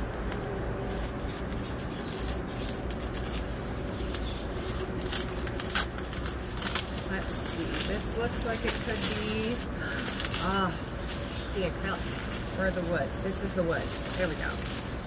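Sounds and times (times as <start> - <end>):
packaging rustling: 0.0 - 15.0
sharp crackles: 0.0 - 15.0
steady low hum: 0.0 - 15.0.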